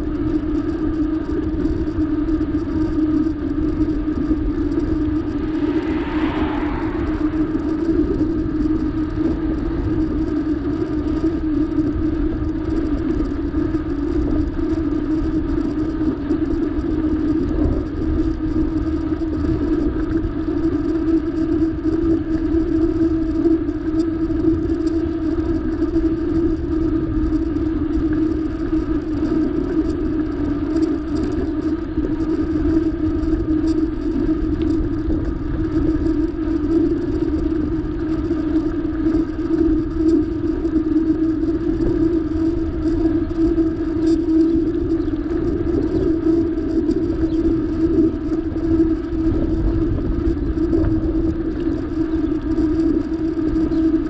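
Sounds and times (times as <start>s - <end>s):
constant hum: 0.0s - 54.0s
wind rumbling on microphone: 0.0s - 54.0s.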